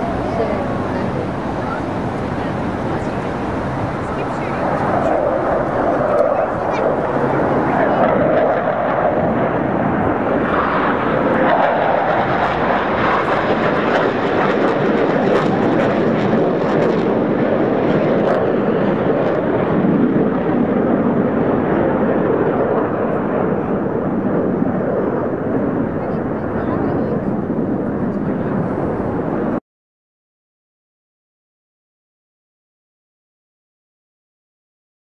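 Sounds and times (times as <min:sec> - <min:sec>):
jet engines roaring overhead: 0:00.0 - 0:29.6.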